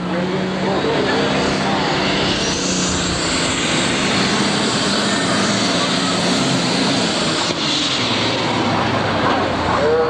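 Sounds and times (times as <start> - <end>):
loud diesel engine running: 0.0 - 10.0
turbo whine: 0.1 - 10.0.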